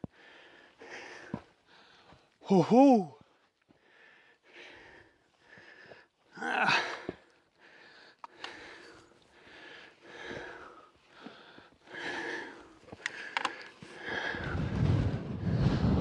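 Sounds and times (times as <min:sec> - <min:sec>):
man panting: 0:00.0 - 0:14.8.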